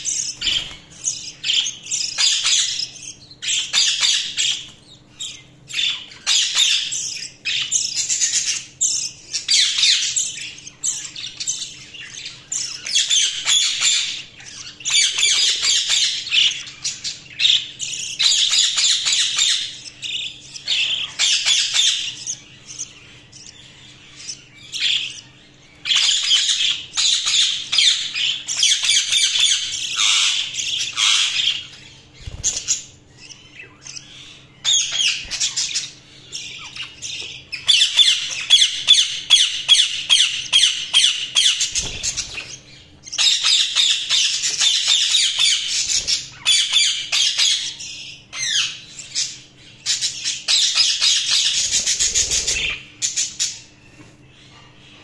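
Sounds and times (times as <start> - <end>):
budgerigars chirping and squawking: 0.0 - 55.0.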